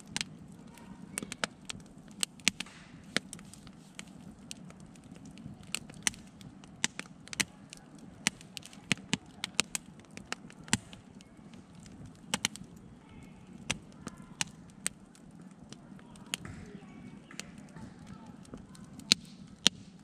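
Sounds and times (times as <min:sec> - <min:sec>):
burning logs crackling and popping: 0:00.0 - 0:20.0
low background noise: 0:00.0 - 0:20.0.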